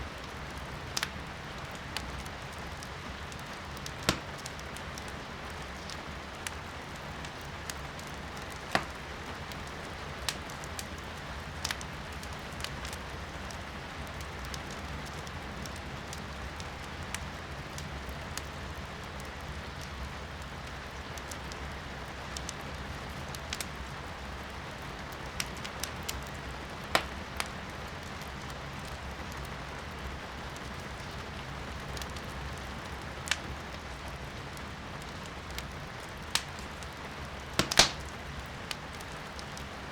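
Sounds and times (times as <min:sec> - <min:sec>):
rain hiss heard from indoors: 0:00.0 - 0:39.9
wood fire crackling in fireplace: 0:00.0 - 0:39.9.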